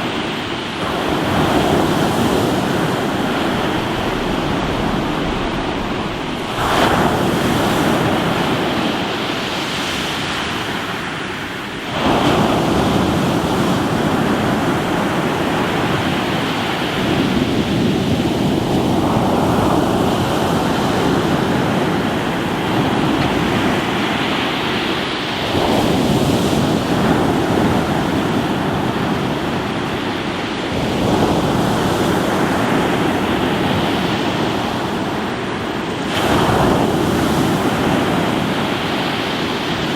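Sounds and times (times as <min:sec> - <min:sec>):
waves breaking on rocky shore: 0:00.0 - 0:39.9
wind buffeting microphone: 0:00.8 - 0:39.9.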